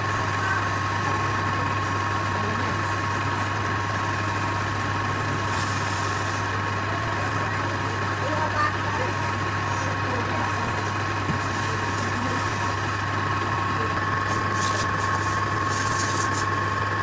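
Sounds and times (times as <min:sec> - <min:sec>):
motor humming and whining: 0:00.0 - 0:17.0.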